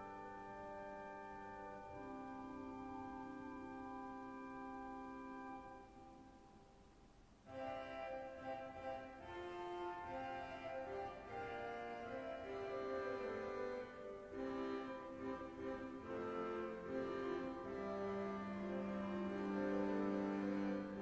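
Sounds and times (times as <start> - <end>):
pipe organ playing: 0.0 - 6.2, 7.5 - 21.0.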